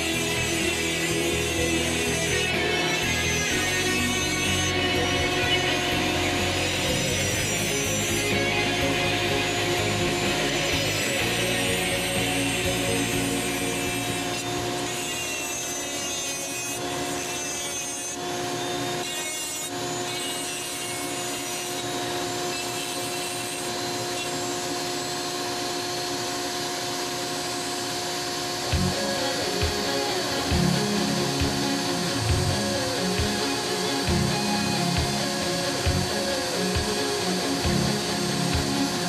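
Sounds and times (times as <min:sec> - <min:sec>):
rotary tool motor whine: 0:00.0 - 0:39.0.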